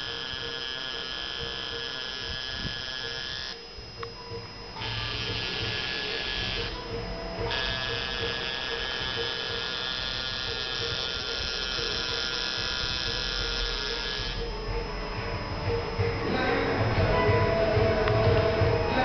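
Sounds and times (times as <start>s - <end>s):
tattoo machine buzzing: 0.0s - 19.0s.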